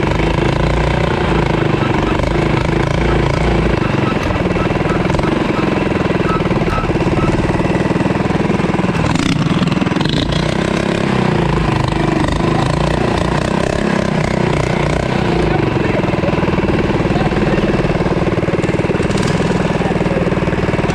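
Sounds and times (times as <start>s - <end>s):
mini bike engine running: 0.0s - 20.9s.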